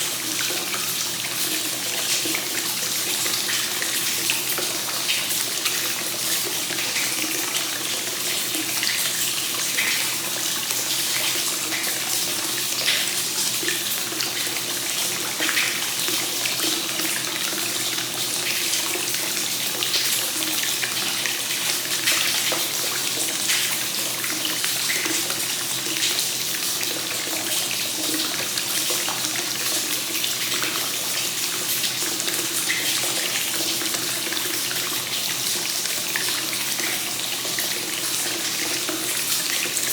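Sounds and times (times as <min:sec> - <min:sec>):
water pouring into bath: 0:00.0 - 0:39.9.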